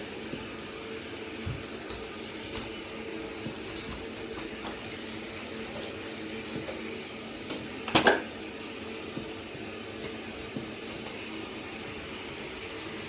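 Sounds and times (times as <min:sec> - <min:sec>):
steady hum and hiss: 0:00.0 - 0:13.0.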